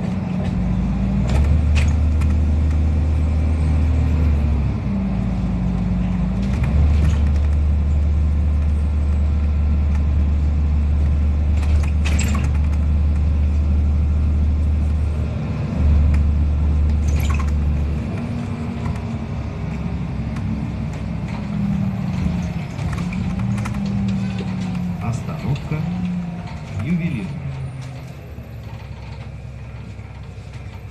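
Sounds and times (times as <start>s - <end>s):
bus engine drone: 0.0s - 30.9s.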